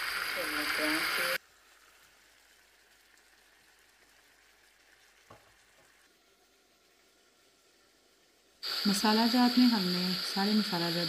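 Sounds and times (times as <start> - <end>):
food sizzling in frying: 0.0 - 11.0.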